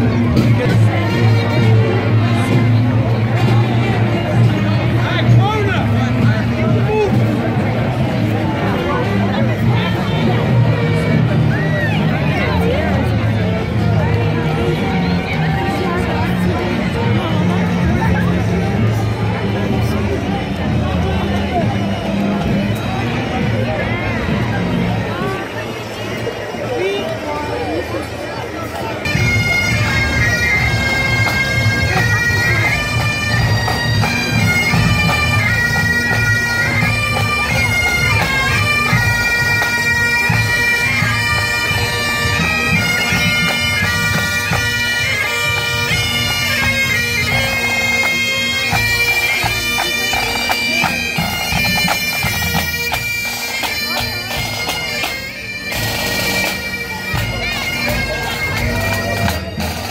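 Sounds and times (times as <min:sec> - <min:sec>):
bagpipes playing marching tune: 0:00.0 - 0:59.9.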